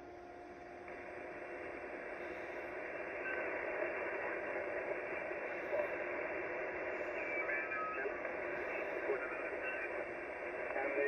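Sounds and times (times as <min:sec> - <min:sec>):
radio static hiss: 0:00.7 - 0:11.0
faint radio whistles: 0:01.4 - 0:11.0.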